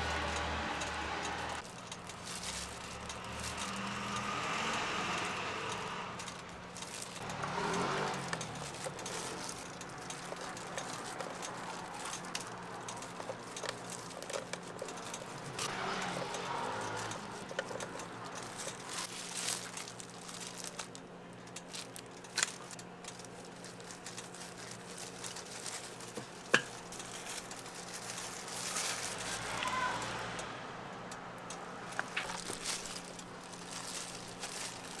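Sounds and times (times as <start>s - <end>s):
rustling and crinkling: 0.0s - 30.4s, 31.4s - 35.0s.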